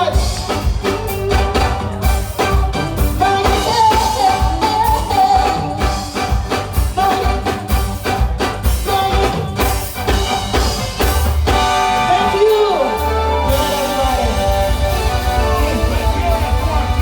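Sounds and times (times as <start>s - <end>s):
loud live soca music: 0.0s - 17.0s.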